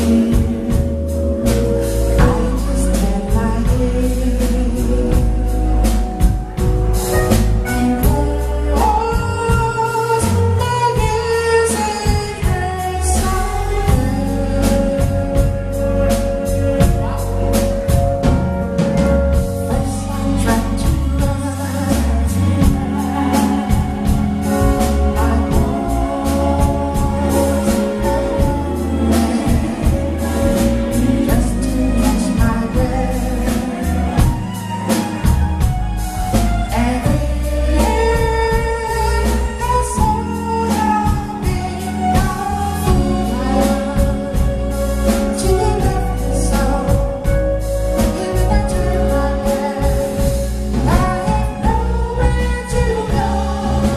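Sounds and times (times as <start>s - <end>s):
backing singers: 0.0s - 53.9s
drum kit: 0.0s - 53.9s
electric guitar: 0.0s - 53.9s
keyboard: 0.0s - 53.9s
lead singer: 0.0s - 53.9s.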